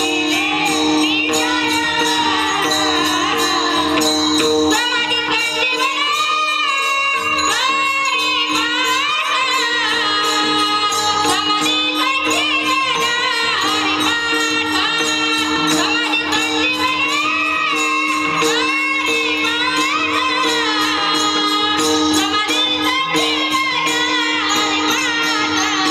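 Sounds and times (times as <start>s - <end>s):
jingling hand percussion: 0.0s - 25.9s
person singing devotional melody: 0.0s - 25.9s.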